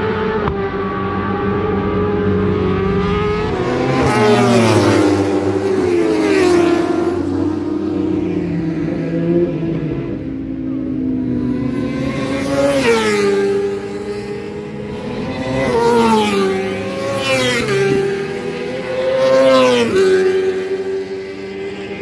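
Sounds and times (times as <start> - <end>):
racing motorcycles passing: 0.0 - 22.0.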